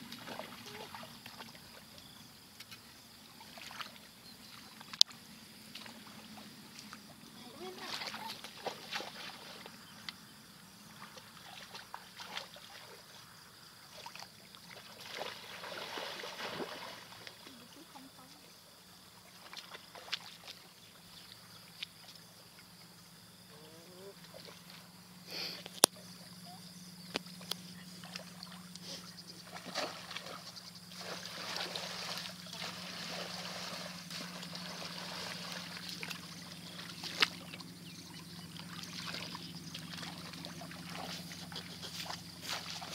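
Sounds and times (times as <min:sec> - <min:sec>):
muddy water sloshing and splashing: 0:00.0 - 0:10.0, 0:10.8 - 0:18.3, 0:18.9 - 0:22.8, 0:24.0 - 0:25.0, 0:27.1 - 0:42.9
faint low hum: 0:00.1 - 0:42.9.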